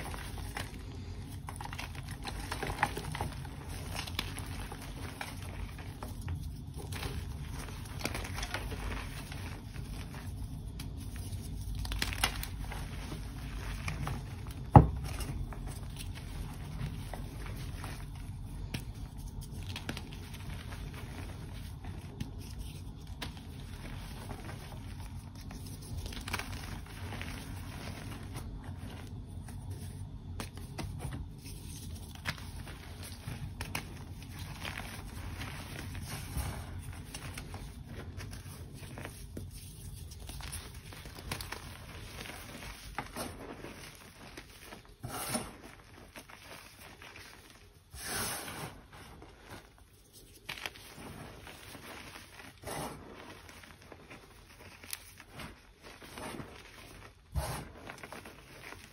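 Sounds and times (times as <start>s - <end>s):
chalk crackling and crunching: 0.0s - 58.9s
patter of falling bits: 0.0s - 58.9s.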